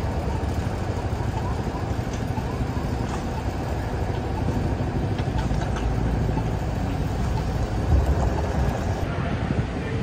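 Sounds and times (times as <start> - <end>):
city street rumble: 0.0 - 10.0
vehicle noise: 0.0 - 10.0.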